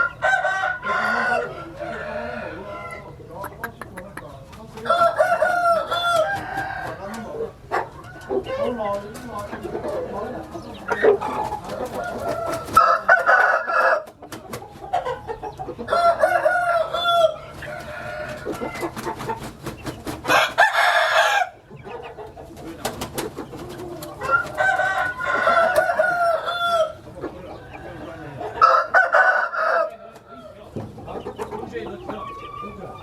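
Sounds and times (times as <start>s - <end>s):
roosters crowing: 0.0s - 3.4s, 4.6s - 33.0s
chickens clucking: 0.0s - 33.0s.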